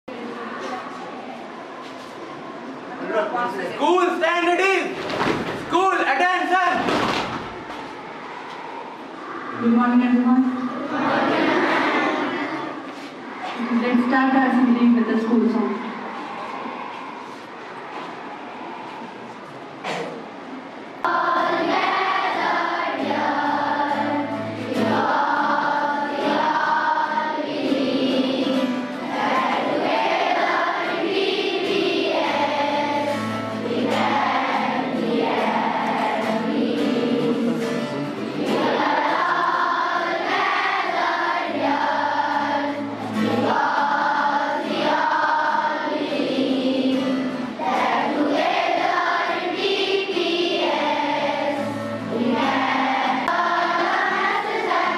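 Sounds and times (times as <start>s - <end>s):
children's choir singing: 6.8s - 9.7s, 10.4s - 54.9s.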